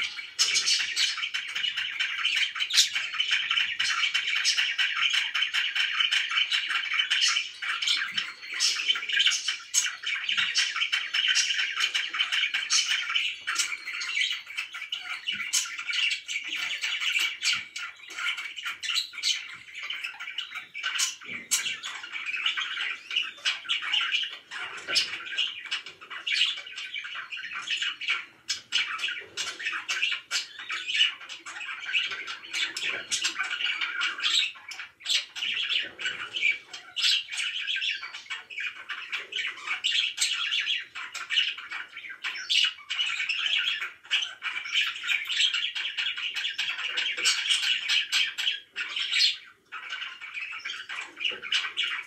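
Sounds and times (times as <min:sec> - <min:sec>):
budgerigars chirping: 0:00.0 - 0:52.0.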